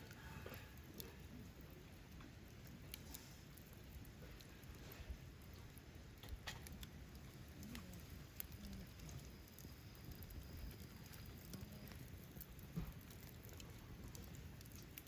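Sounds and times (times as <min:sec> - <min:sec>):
campfire crackling: 0:00.0 - 0:15.0
low background hiss: 0:00.0 - 0:15.0.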